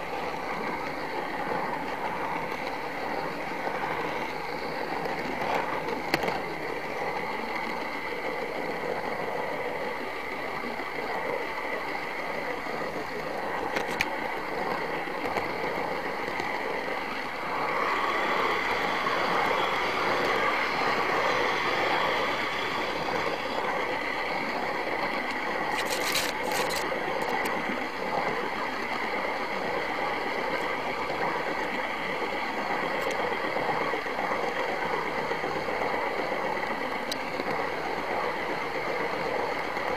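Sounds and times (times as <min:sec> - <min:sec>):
sharp clicks of train: 0:00.0 - 0:29.0, 0:29.9 - 0:39.9
model train motor whirring: 0:00.0 - 0:39.9.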